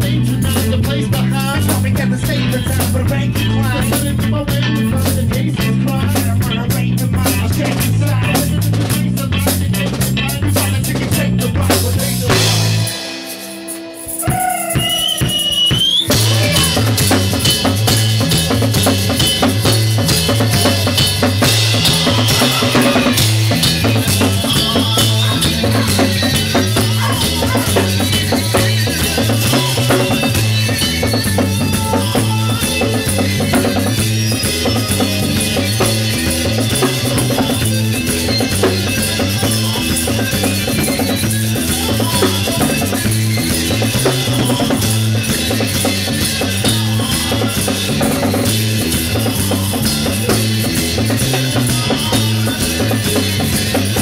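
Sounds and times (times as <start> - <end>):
drum kit: 0.0 - 54.0
electric bass: 0.0 - 54.0
electric guitar: 0.0 - 54.0.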